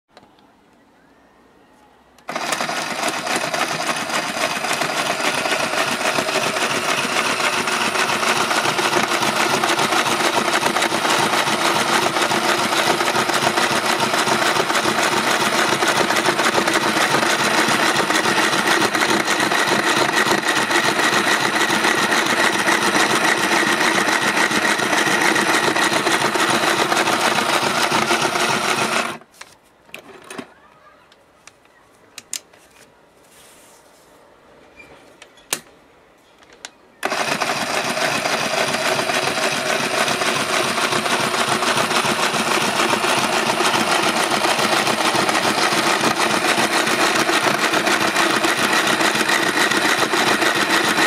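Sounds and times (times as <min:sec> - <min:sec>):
sewing machine running: 0:02.3 - 0:29.2, 0:37.0 - 0:51.0.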